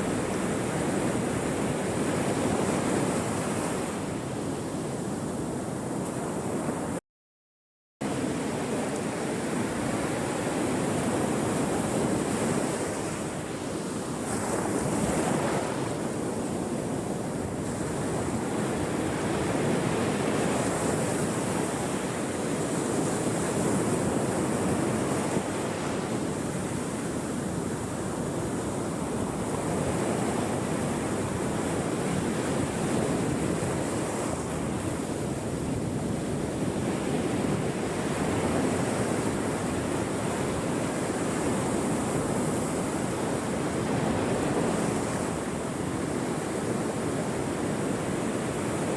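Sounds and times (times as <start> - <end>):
ocean waves breaking on shore: 0.0 - 7.0, 8.0 - 48.9
wind on microphone: 0.0 - 7.0, 8.0 - 48.9.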